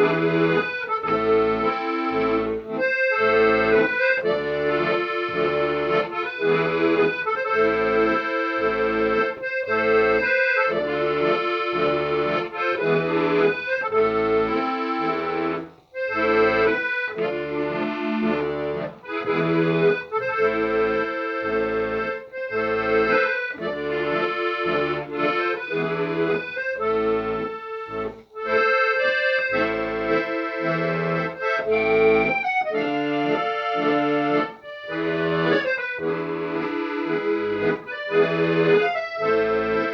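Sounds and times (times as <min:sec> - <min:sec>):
instrumental music with steady beat: 0:00.0 - 0:39.9.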